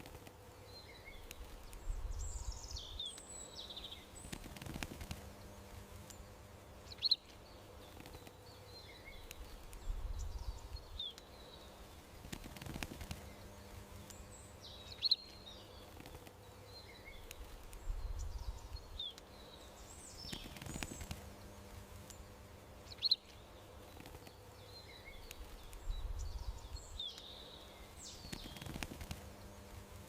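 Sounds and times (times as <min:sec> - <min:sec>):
faint steady hum: 0:00.0 - 0:30.0
small birds chirping: 0:00.0 - 0:30.0.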